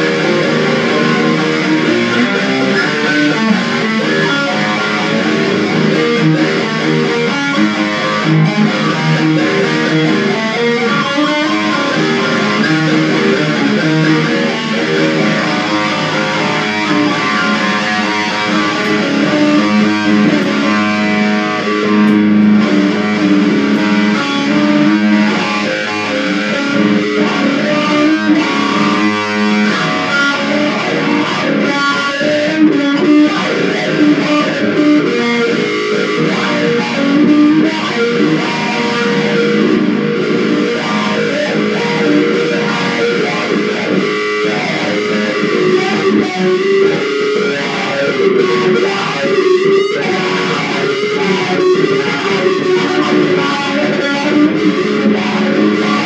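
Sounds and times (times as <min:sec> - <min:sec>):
electric guitar riffing: 0:00.0 - 0:56.0.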